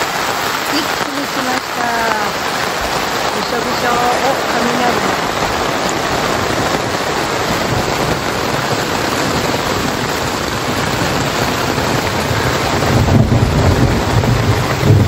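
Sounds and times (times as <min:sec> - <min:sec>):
heavy rain drumming on tent: 0:00.0 - 0:15.0
thunder rumble: 0:00.0 - 0:15.0.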